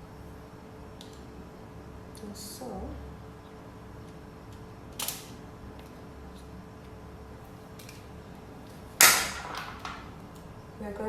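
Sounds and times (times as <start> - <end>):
quiet room hum: 0.0 - 11.0.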